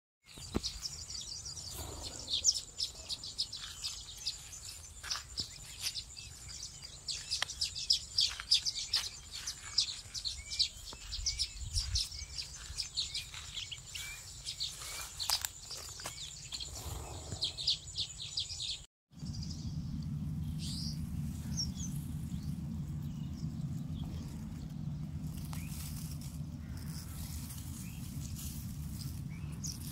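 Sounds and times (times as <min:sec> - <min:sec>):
sparrows chirping: 0:00.2 - 0:29.9
steady low rumble: 0:00.3 - 0:14.9, 0:16.6 - 0:29.9.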